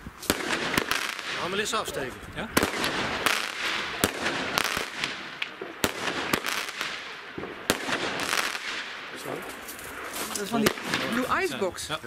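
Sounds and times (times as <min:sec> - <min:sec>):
fireworks bangs: 0:00.0 - 0:11.5
fireworks hissing: 0:00.0 - 0:11.8.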